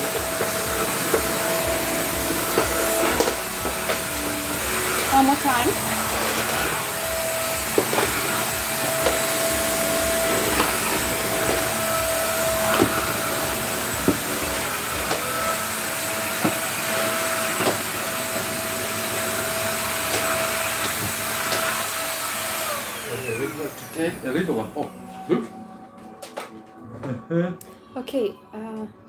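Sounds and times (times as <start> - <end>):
stick vacuum cleaner running: 0.0 - 25.6.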